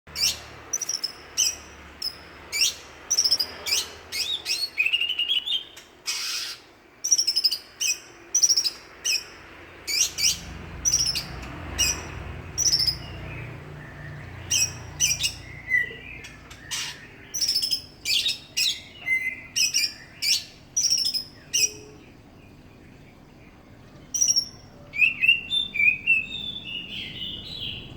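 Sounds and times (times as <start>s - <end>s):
bird whistled song: 0.1s - 22.2s, 24.0s - 27.9s.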